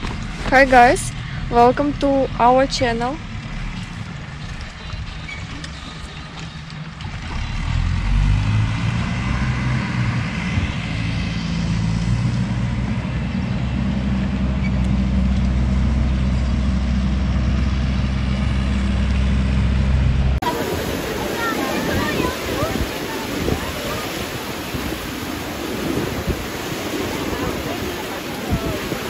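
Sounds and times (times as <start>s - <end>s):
heavy vehicle engine droning: 0.0s - 29.0s.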